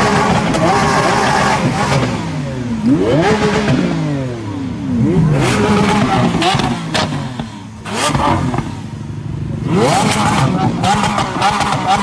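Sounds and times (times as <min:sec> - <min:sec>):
exhaust cracks: 0:00.0 - 0:09.0, 0:09.6 - 0:12.0
car engine revving: 0:00.0 - 0:12.0.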